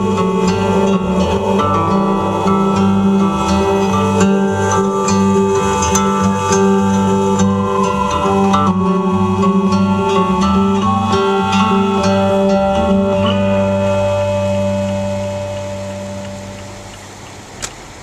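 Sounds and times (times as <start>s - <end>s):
bass line: 0.0s - 17.0s
guitar plucked and strummed: 0.0s - 17.2s.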